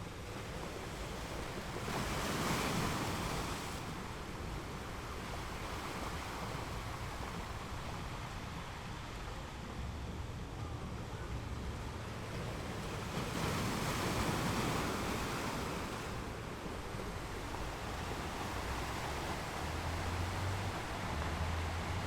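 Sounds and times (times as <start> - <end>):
ocean waves breaking on rocks: 0.0 - 22.0.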